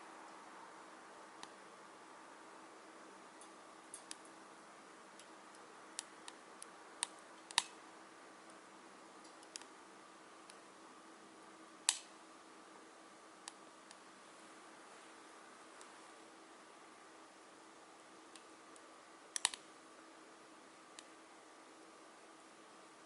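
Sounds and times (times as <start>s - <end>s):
faint steady fire hiss: 0.0s - 23.0s.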